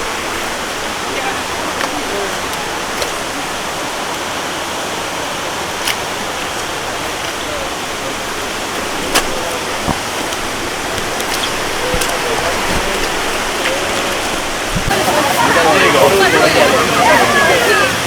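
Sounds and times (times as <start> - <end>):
waterfall rushing into pool: 0.0 - 18.0.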